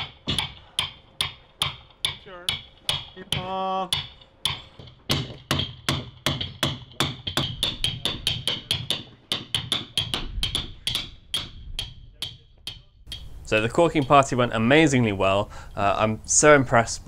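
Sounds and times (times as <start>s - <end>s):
mallet striking caulking iron: 0.0s - 14.4s.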